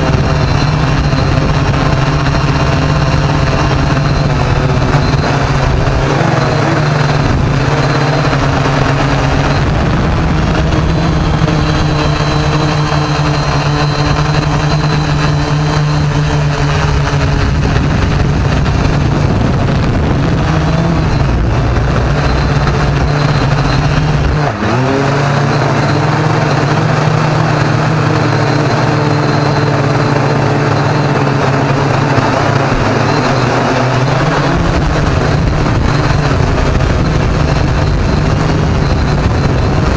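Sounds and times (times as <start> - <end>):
drone motors and propellers: 0.0 - 39.9.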